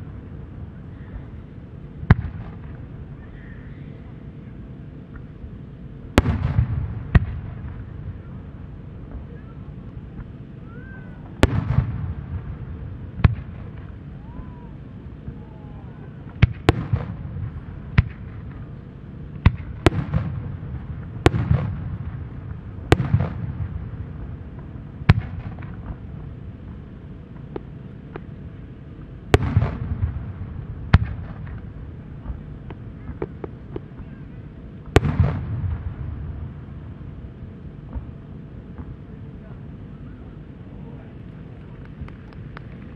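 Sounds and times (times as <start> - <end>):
rolling rumble of echo: 0.0 - 42.9.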